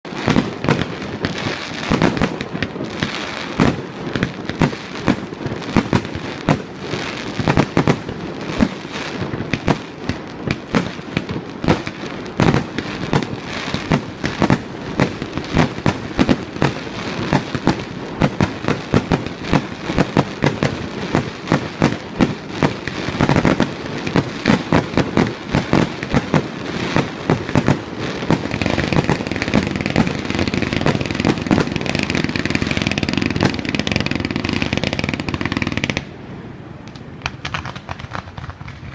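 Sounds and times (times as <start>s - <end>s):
fireworks bursting with bangs: 0.0s - 38.9s.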